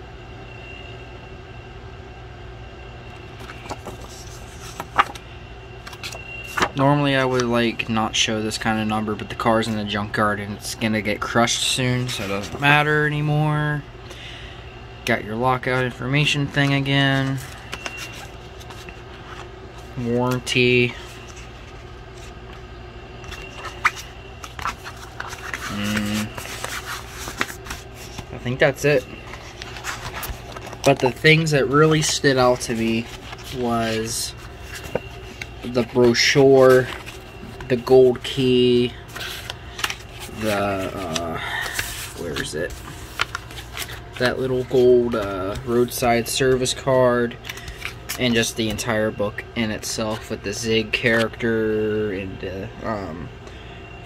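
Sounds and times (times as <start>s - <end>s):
low background hum: 0.0s - 54.0s
paper cards rustling: 3.2s - 13.0s, 15.6s - 22.6s, 23.2s - 49.0s, 49.8s - 51.5s.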